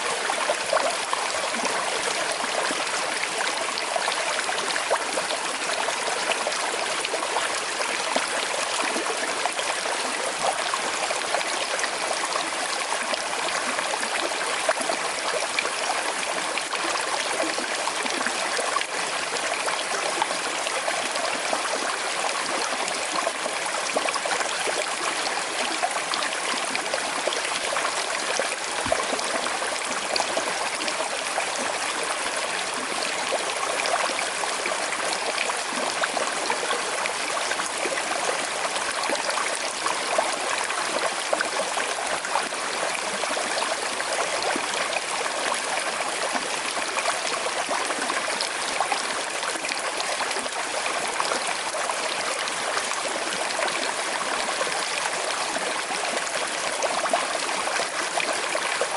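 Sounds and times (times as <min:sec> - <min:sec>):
river babbling over stones: 0:00.0 - 0:58.9.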